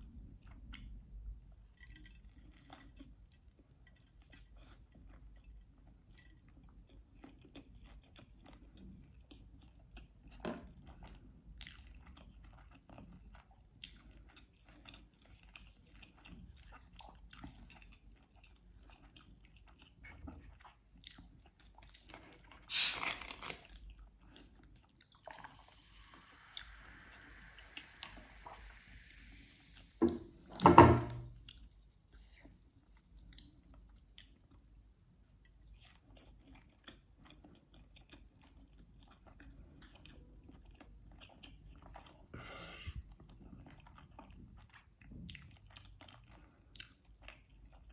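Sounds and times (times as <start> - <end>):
chewing and biting food: 0.1 - 25.5, 32.9 - 42.3, 43.0 - 47.9.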